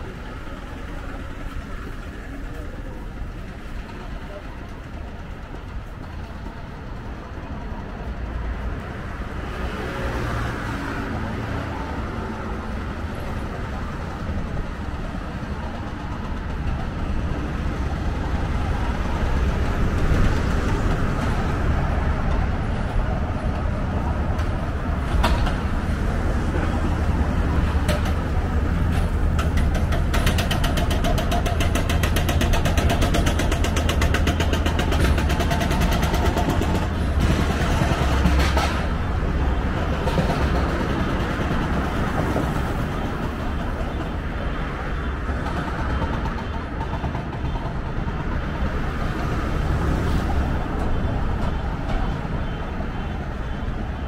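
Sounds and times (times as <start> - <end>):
engine rattling: 0.0 - 54.0
road traffic rumble: 0.0 - 54.0.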